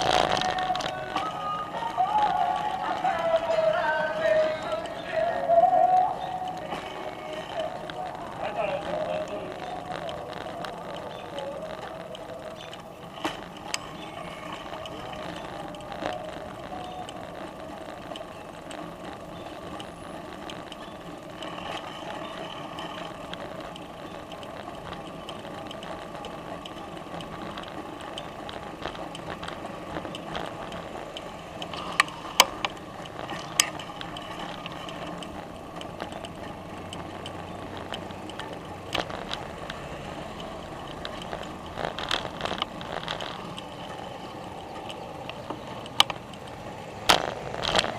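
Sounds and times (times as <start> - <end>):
bicycle chain whirring and ticking: 0.0 - 47.9
bicycle rattling over bumps: 0.0 - 47.9.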